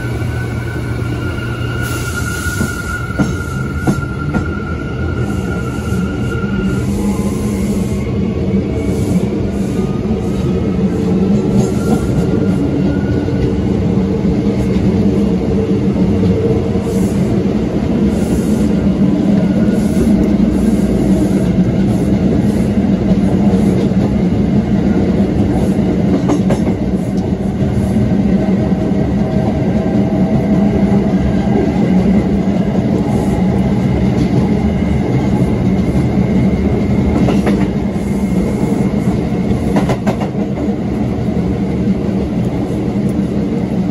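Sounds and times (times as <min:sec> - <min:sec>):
subway wheels on rail: 0:00.0 - 0:43.9.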